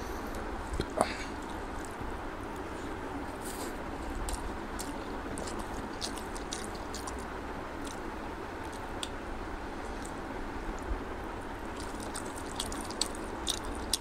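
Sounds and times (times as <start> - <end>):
person chewing food: 0.7 - 10.9, 11.6 - 14.0.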